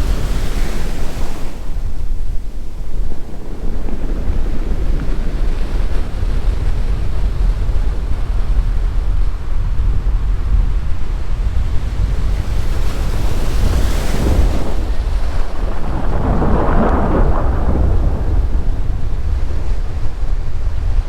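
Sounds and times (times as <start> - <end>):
wave breaking: 0.0 - 10.3, 10.9 - 20.9
ocean surf: 0.0 - 21.0
wind buffeting microphone: 0.0 - 21.0.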